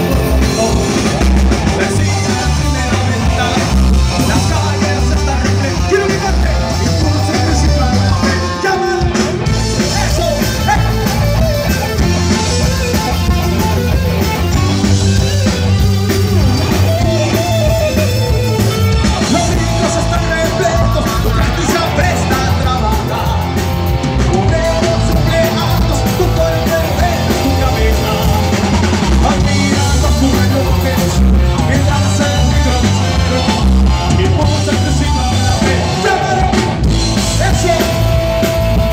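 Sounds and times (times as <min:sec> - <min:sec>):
person singing: 0:00.0 - 0:11.9, 0:16.7 - 0:38.8
drum kit: 0:00.0 - 0:38.9
electric guitars: 0:00.0 - 0:38.9
keyboard: 0:00.0 - 0:38.9.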